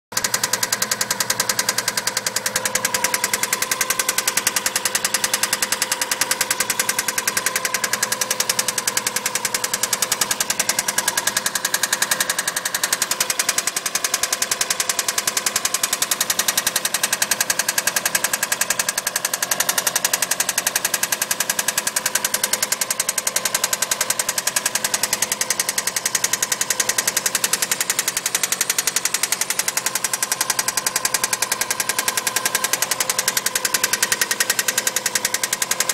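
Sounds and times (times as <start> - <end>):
engine running with rapid knock: 0.1 - 35.9.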